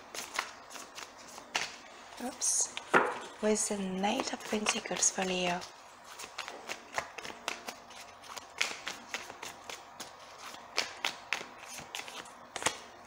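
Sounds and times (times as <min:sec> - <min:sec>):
cards shuffled by hand: 0:00.0 - 0:02.3, 0:04.1 - 0:12.9.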